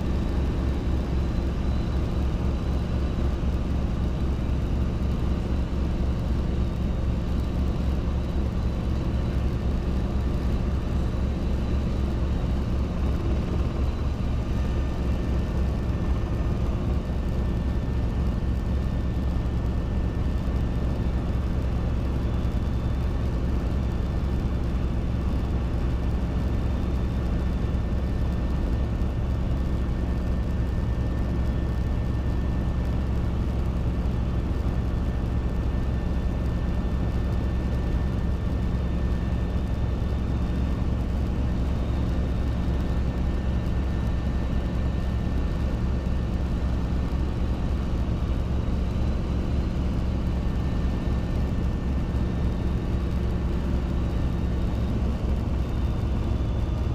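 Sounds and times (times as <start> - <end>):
helicopter engine and rotor: 0.0 - 56.9.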